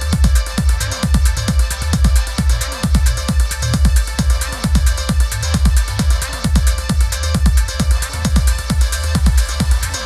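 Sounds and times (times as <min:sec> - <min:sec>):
electronic trance music: 0:00.0 - 0:10.0.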